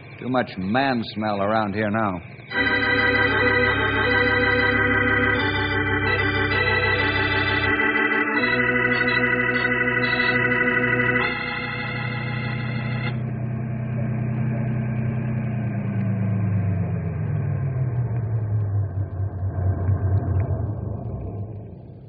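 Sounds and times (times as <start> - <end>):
organ chords: 0.0 - 19.9.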